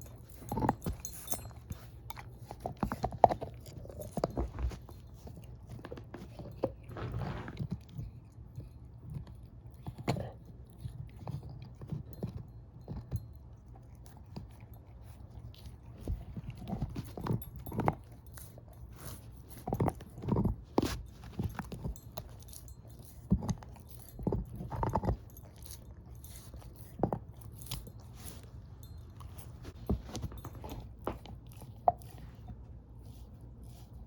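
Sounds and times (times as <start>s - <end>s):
dog chewing a bone: 0.0s - 34.0s.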